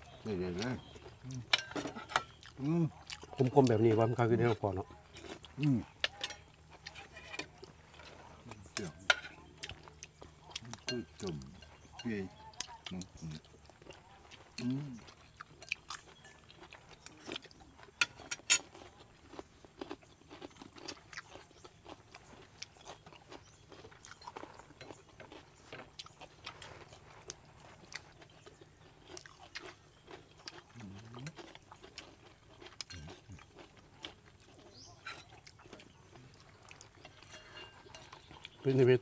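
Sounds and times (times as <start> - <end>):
quiet chewing: 0.0 - 39.0.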